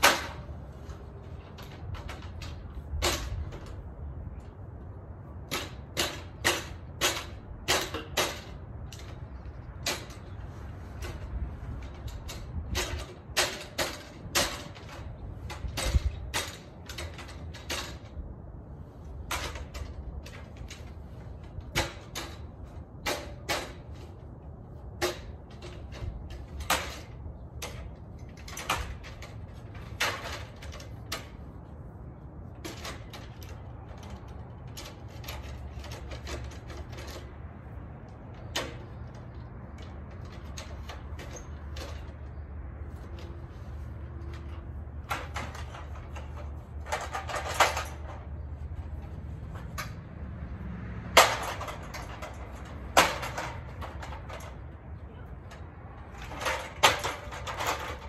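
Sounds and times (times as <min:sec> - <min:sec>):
clicks and knocks on metal ladder: 0:00.0 - 0:58.0.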